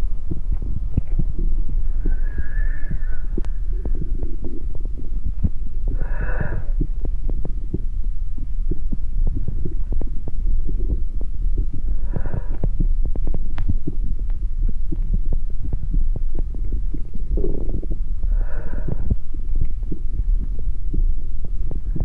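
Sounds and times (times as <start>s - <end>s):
amplified heart and body sounds: 0.0s - 22.0s.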